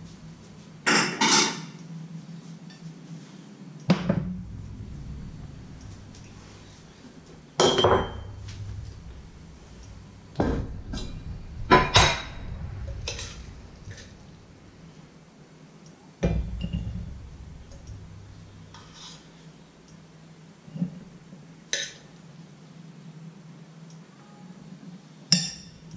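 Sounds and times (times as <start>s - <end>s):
steady low hum: 0.0s - 23.8s, 25.4s - 25.9s.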